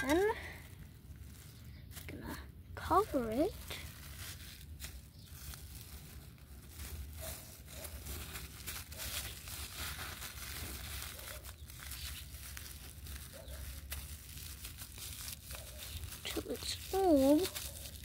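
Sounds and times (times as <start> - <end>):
cling film crinkling: 0.0 - 18.0.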